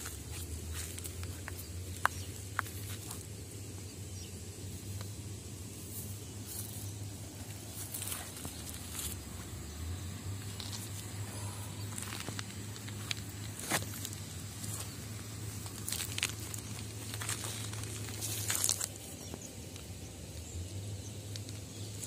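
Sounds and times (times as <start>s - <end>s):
footsteps on gravel and stones: 0.0s - 22.0s
steady low rumble: 0.0s - 22.0s.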